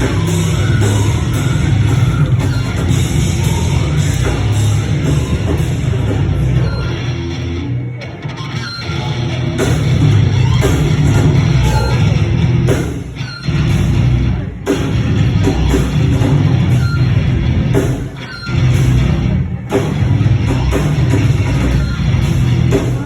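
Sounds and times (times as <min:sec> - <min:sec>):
drums: 0:00.0 - 0:23.0
heavy guitar riffing: 0:00.0 - 0:23.0.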